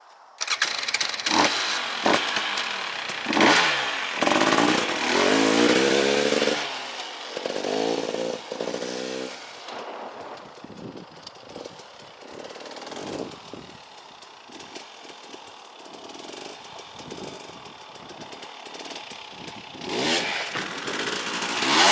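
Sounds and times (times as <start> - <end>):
two-stroke engine revving: 0.4 - 21.9.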